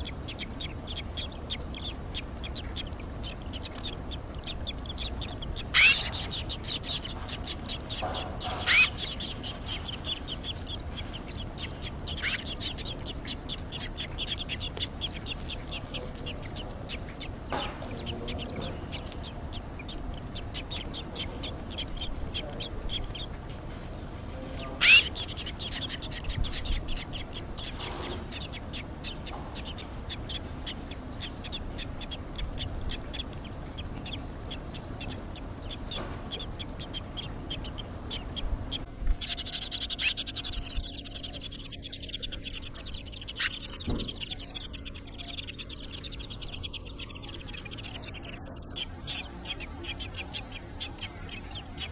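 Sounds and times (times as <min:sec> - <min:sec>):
nestlings begging chirps: 0:00.0 - 0:51.9.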